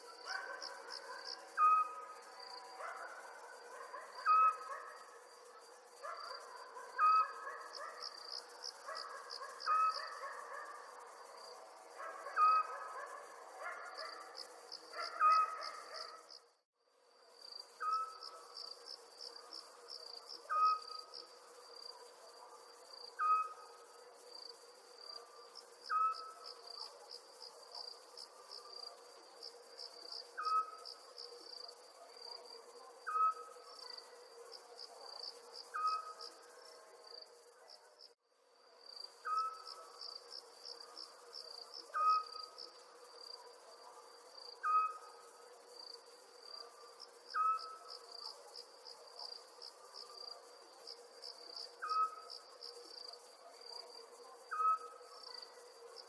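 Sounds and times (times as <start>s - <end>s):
crickets trilling: 0.0s - 16.5s, 17.1s - 56.0s.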